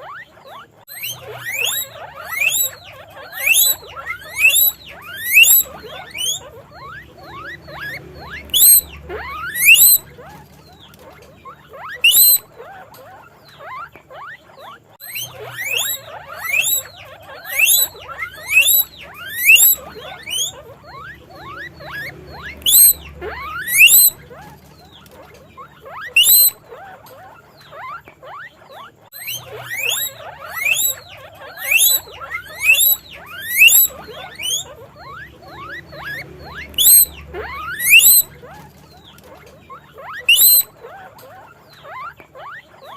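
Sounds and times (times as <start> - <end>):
guinea pigs wheeking: 0.0 - 42.9.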